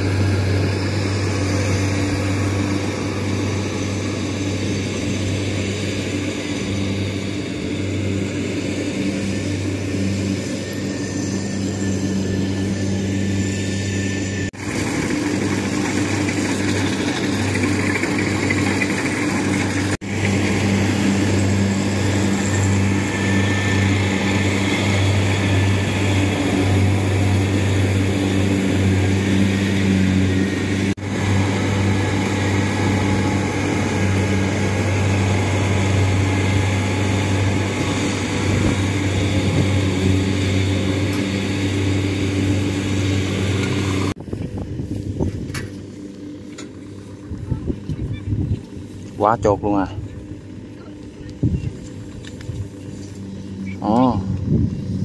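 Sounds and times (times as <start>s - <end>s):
diesel engine hum: 0.0s - 55.0s
whir of threshing gear: 0.0s - 55.0s.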